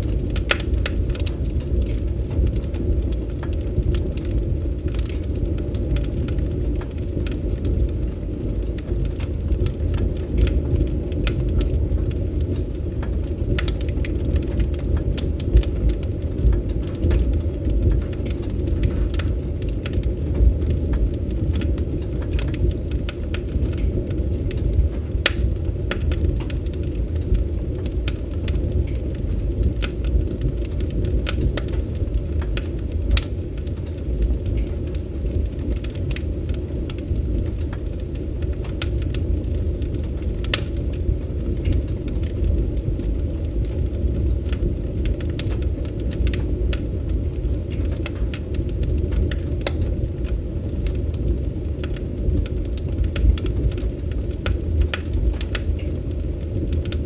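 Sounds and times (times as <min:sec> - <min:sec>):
fire crackling: 0:00.0 - 0:57.0
fire low rumble: 0:00.0 - 0:57.0.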